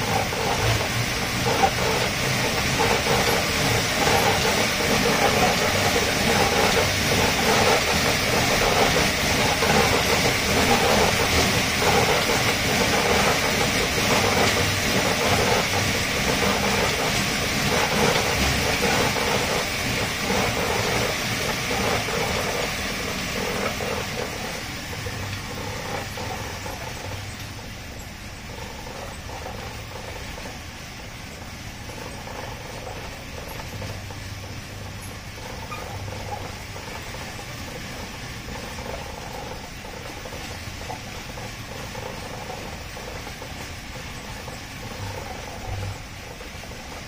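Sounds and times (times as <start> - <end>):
dog paws striking treadmill: 0.0 - 47.0
treadmill rattling and rumbling: 0.0 - 47.0.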